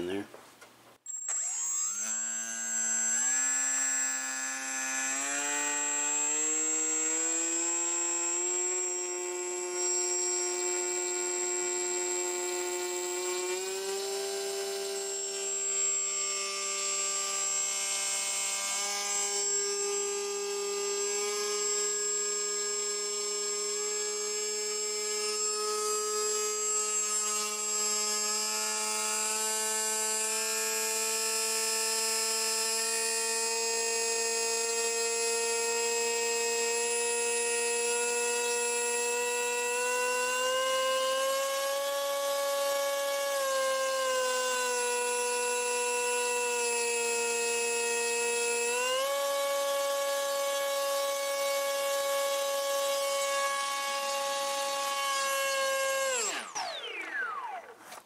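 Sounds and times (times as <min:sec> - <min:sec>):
electric motor and propeller whine: 0:01.1 - 0:58.0.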